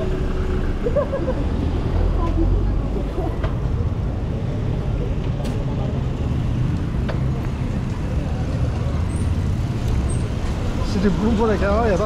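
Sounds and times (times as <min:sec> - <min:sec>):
motor traffic passing: 0:00.0 - 0:12.0
wind and road noise: 0:00.0 - 0:12.0.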